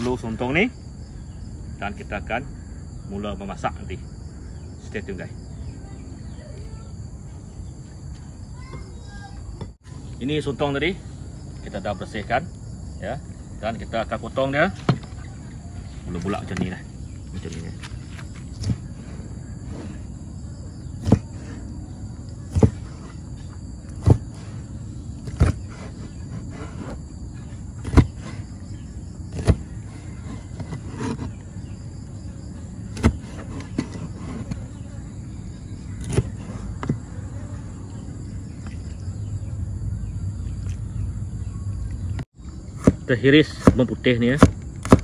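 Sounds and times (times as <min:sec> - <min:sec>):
steady background noise: 0:00.0 - 0:45.0.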